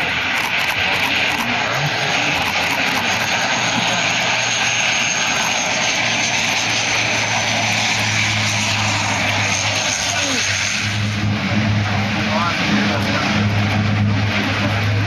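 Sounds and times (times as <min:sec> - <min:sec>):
low hum: 0:00.0 - 0:15.0
turboprop engines running: 0:00.0 - 0:15.0.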